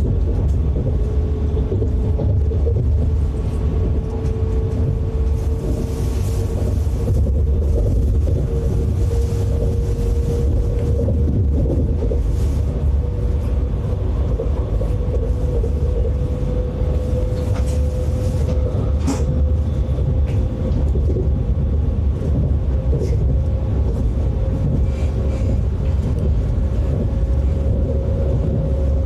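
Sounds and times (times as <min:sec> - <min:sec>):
vehicle rumbling: 0:00.0 - 0:29.0.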